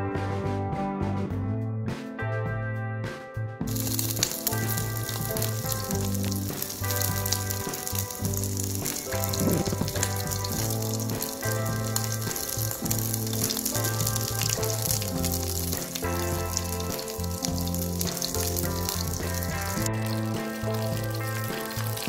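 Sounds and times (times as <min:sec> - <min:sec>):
background music: 0:00.0 - 0:22.0
fish sizzling in hot oil: 0:03.7 - 0:22.0.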